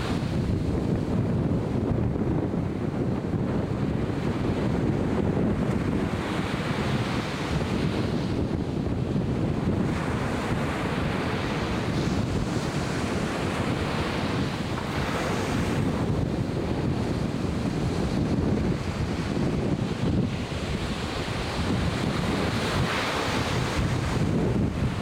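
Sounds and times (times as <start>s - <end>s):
ocean surf breaking on beach: 0.0s - 25.0s
wind buffeting microphone: 0.0s - 25.0s.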